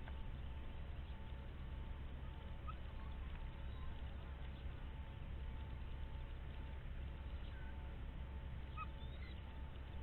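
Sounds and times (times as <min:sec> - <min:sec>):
faint steady hum: 0:00.0 - 0:10.0
low rumble and hiss: 0:00.0 - 0:10.0.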